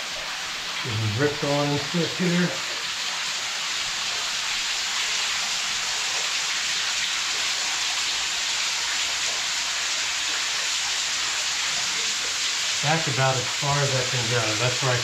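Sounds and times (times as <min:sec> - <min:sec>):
small waterfall into pool: 0:00.0 - 0:15.0.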